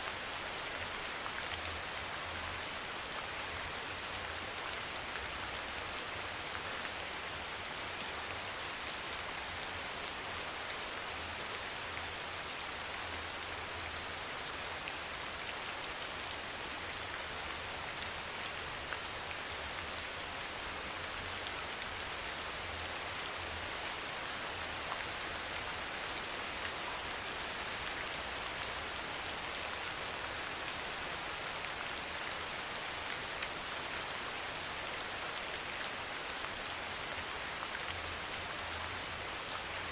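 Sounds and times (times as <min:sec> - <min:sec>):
rainfall hiss: 0:00.0 - 0:39.9.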